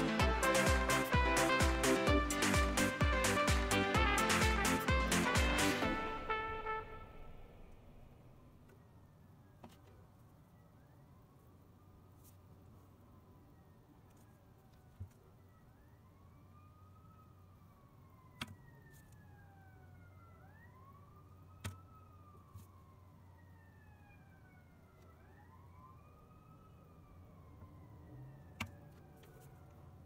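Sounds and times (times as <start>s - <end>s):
faint siren wailing: 0.0s - 30.0s.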